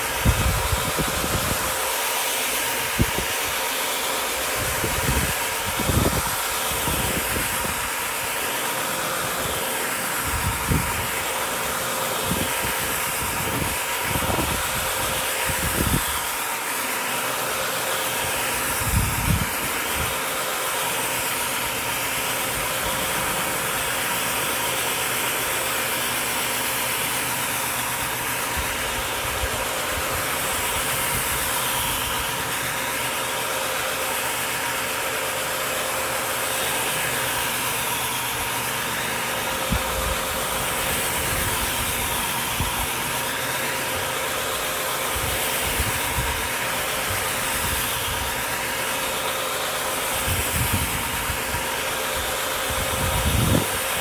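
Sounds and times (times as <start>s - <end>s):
rug scrubbing machine humming: 0.0s - 54.0s.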